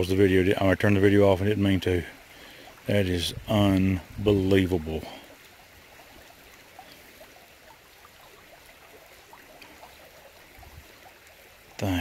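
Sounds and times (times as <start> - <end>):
stream trickling and gurgling: 0.0 - 12.0.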